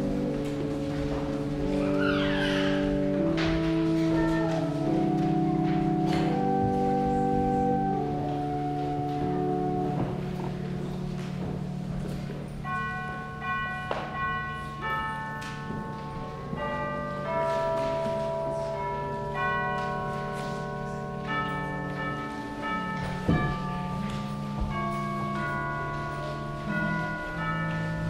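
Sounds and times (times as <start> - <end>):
church organ playing: 0.0 - 28.0.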